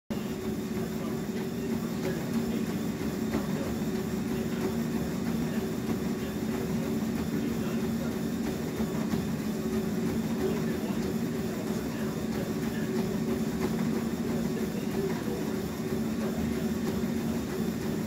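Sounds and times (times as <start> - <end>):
treadmill motor hum: 0.1 - 18.0
footfalls on treadmill belt: 0.2 - 18.0.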